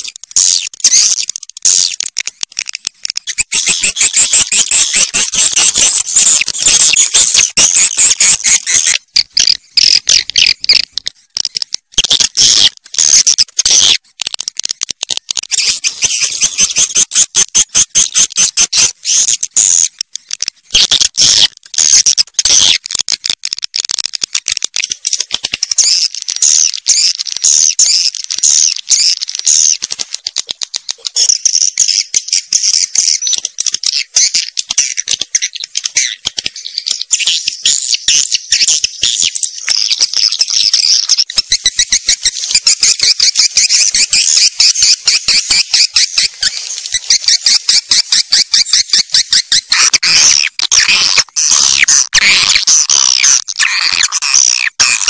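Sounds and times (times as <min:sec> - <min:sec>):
swiftlet chirps and clicks: 0:00.0 - 0:55.0.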